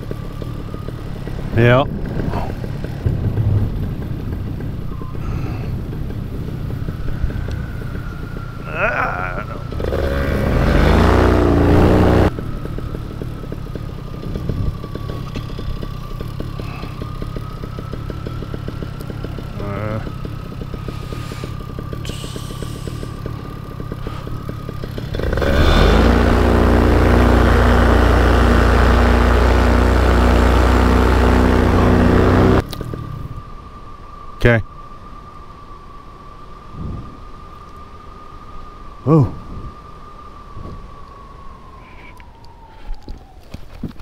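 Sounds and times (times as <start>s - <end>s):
paramotor engine and propeller: 0.0s - 34.9s, 39.0s - 44.0s.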